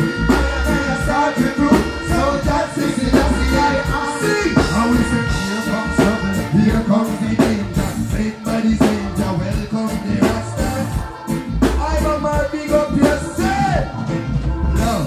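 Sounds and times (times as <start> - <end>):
heavy bass line: 0.0 - 15.0
person singing: 0.0 - 15.0
reggae drums: 0.0 - 15.0.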